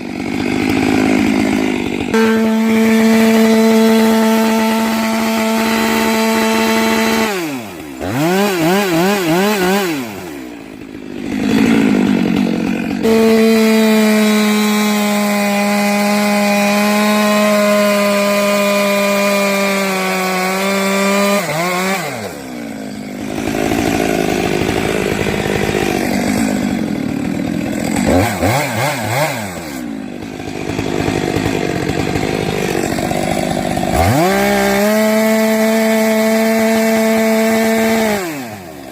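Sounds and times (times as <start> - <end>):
chainsaw cutting wood: 0.0 - 38.9
chainsaw idling and revving: 0.0 - 38.9.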